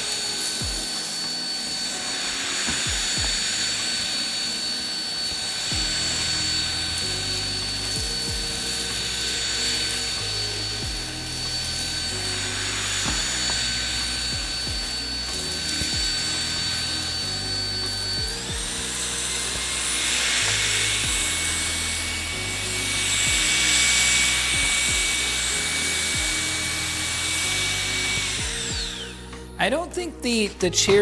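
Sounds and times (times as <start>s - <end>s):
background music with steady beat: 0.0s - 31.0s
vacuum cleaner motor whine: 0.0s - 31.0s.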